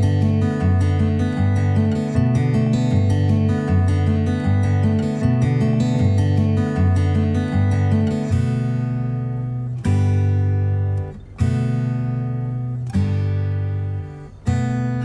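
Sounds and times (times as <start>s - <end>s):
strummed guitar chords: 0.0s - 15.0s.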